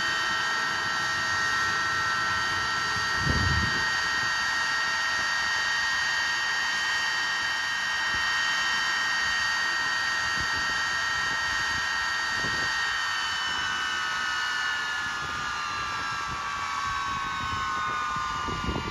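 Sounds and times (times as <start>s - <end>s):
jet engine whine: 0.0s - 18.9s.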